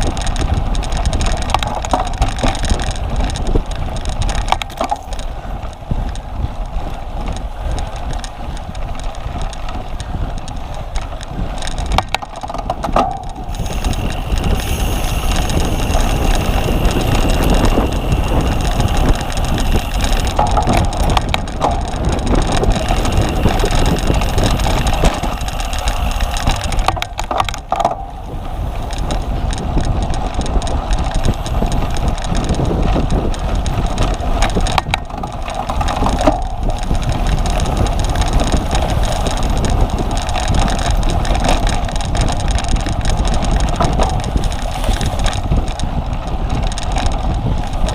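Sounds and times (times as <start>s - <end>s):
bike rattles and knocks: 0.0s - 47.9s
tyres rumbling on ground: 0.0s - 47.9s
wind on microphone: 0.0s - 47.9s.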